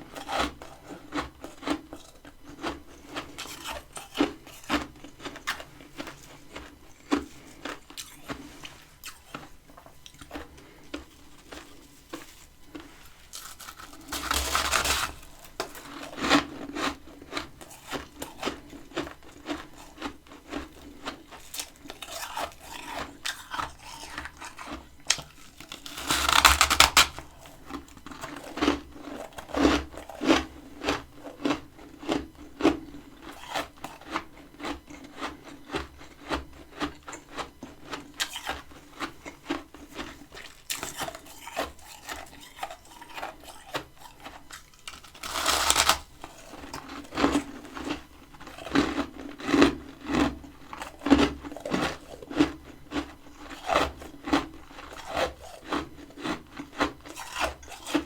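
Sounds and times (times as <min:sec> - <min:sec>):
crunching chews of frost: 0:00.0 - 0:58.0.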